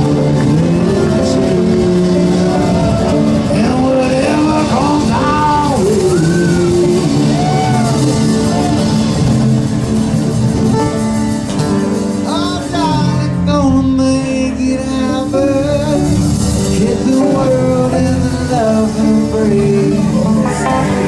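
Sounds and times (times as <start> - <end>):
acoustic string band playing: 0.0 - 21.0.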